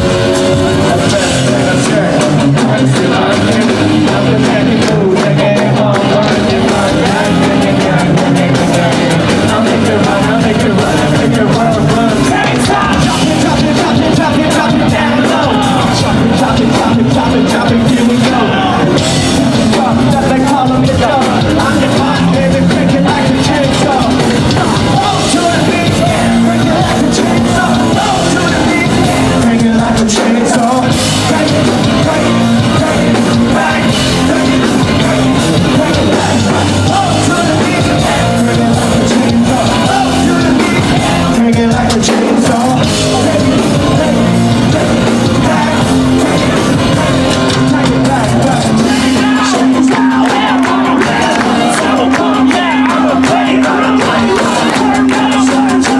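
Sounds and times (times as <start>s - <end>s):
distorted guitars: 0.0s - 55.9s
drums: 0.0s - 55.9s
sung vocals: 0.0s - 55.9s.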